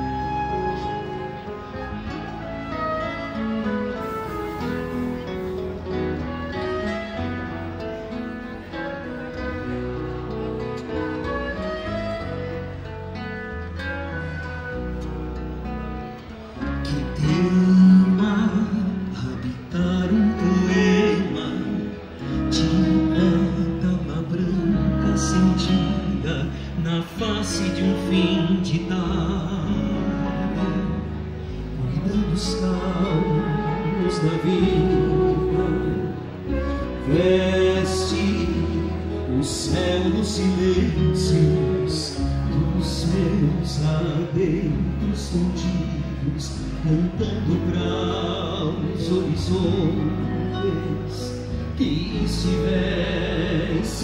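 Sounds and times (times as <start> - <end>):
acoustic guitars strummed and plucked: 0.0 - 54.0
electric bass line: 0.0 - 54.0
flute melody: 0.0 - 54.0
man singing: 0.0 - 54.0.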